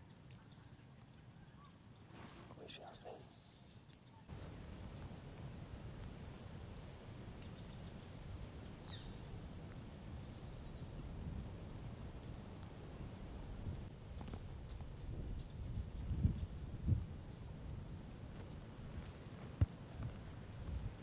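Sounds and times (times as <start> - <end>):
small birds chirping: 0.0 - 5.4, 6.2 - 17.8, 19.6 - 20.0.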